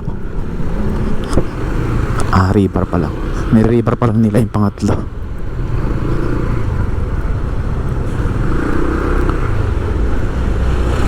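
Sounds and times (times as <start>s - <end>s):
vehicle rumble while moving: 0.0s - 11.0s.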